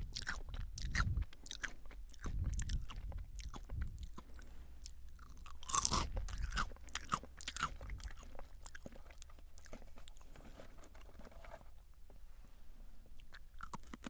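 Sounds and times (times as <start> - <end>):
chewing crunchy potato sticks: 0.0 - 11.6, 13.0 - 14.0.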